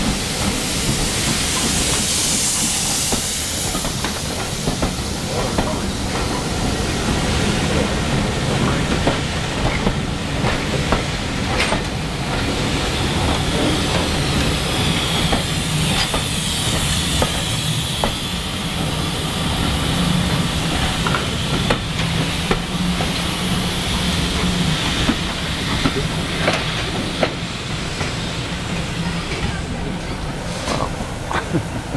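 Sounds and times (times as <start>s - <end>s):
steam hissing: 0.0s - 31.9s
train coaches rumbling past: 0.0s - 31.9s.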